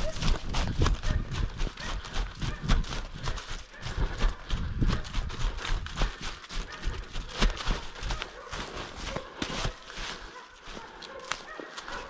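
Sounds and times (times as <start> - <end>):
footsteps on dry leaves: 0.0 - 12.0.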